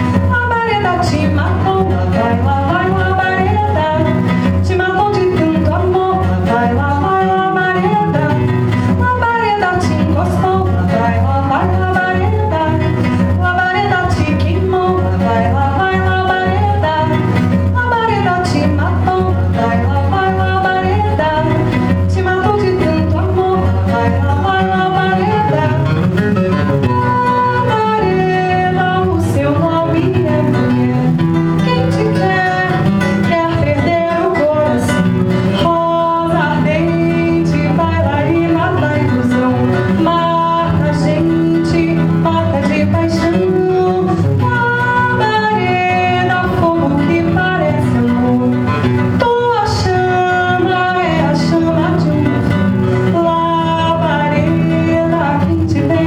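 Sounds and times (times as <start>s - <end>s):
nylon-string guitar playing: 0.0s - 56.0s
woman singing: 0.0s - 56.0s.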